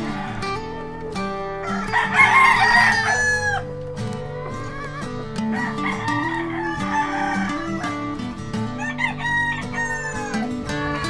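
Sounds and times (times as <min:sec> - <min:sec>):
plucked guitar music: 0:00.0 - 0:11.0
rooster crowing: 0:00.0 - 0:11.0.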